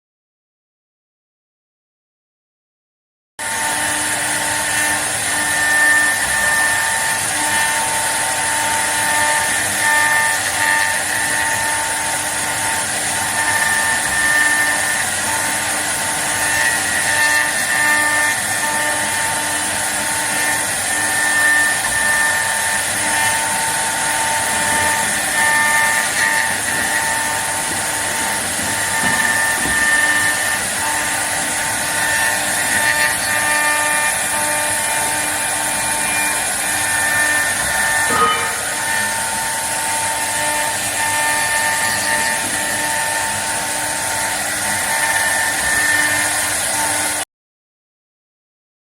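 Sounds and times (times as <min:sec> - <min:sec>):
lathe motor whine: 0:03.4 - 0:47.2
hiss of wood cutting: 0:03.5 - 0:47.2.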